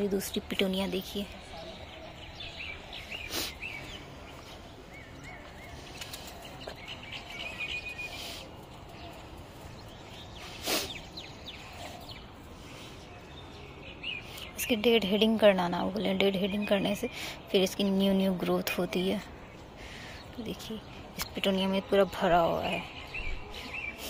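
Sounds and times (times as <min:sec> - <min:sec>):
small birds chirping: 0:00.0 - 0:24.0
steady outdoor hum: 0:00.0 - 0:24.0.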